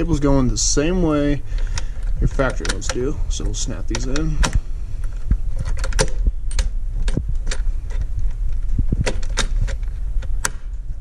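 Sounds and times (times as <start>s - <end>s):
cable ends rattling: 0.0s - 10.5s
steady low rumble: 0.0s - 11.0s.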